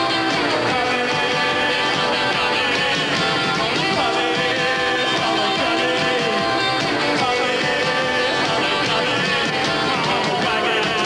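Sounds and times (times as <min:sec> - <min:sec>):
distorted electric guitar: 0:00.0 - 0:11.0
drums: 0:00.0 - 0:11.0
man singing: 0:00.0 - 0:11.0.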